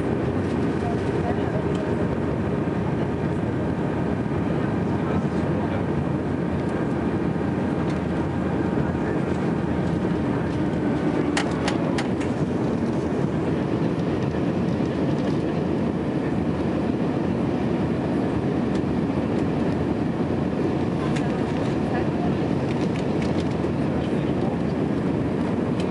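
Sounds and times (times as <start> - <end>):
aircraft cabin engine noise: 0.0 - 25.9
rush of air over wing: 0.0 - 25.9.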